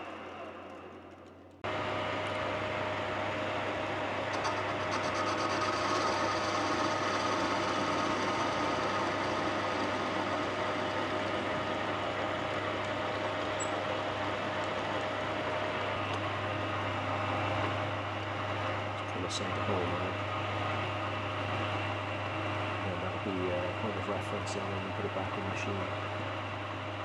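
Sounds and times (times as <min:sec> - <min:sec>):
lathe humming and whining: 0:01.7 - 0:27.0.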